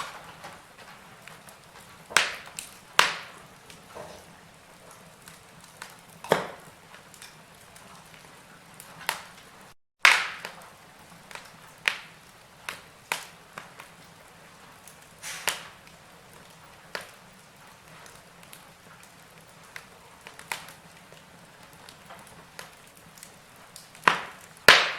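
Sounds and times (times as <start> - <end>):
fire popping and snapping: 0.0 - 24.9
wood fire crackling: 0.0 - 24.9.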